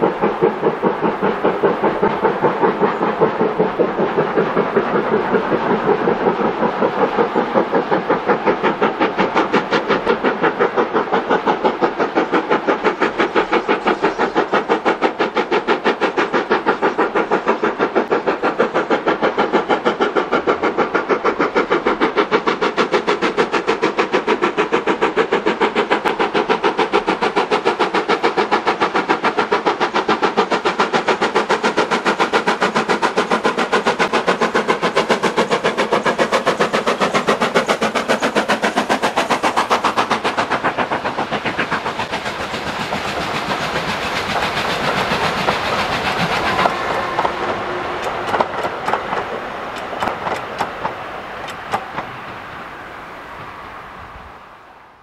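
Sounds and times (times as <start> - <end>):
train wheels clicking over rail joints: 0.0 - 52.4
steam locomotive exhaust beats: 0.0 - 55.0.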